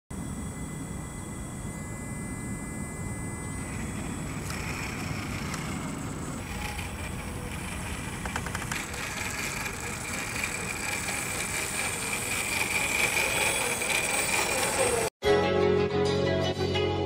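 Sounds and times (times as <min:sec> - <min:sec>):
electric motor and gears whining: 0:00.1 - 0:15.2.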